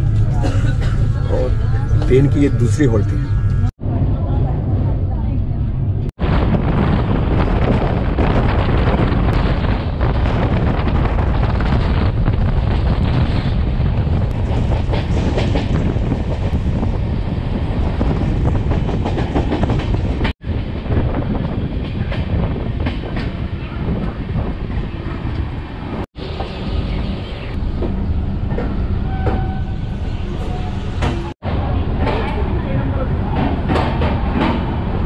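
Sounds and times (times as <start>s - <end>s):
train coach rumble: 0.0s - 35.0s.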